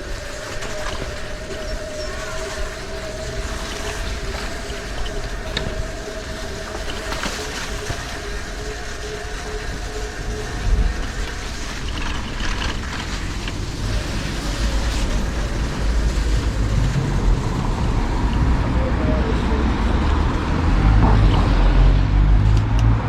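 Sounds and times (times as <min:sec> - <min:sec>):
road noise: 0:00.0 - 0:23.0
wind rumble on microphone: 0:00.0 - 0:23.0.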